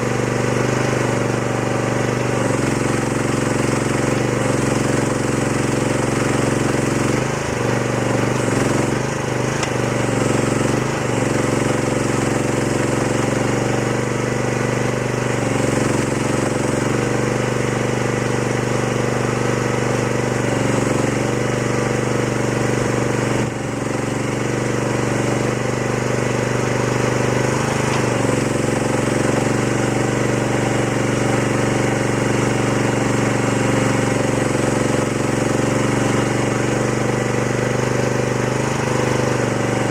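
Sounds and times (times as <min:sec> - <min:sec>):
diesel excavator engine clattering: 0:00.0 - 0:39.9.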